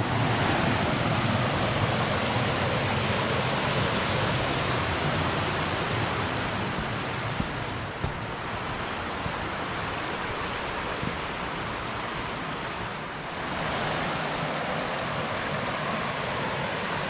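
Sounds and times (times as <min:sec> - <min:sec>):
creek rushing over rocks: 0:00.0 - 0:17.0.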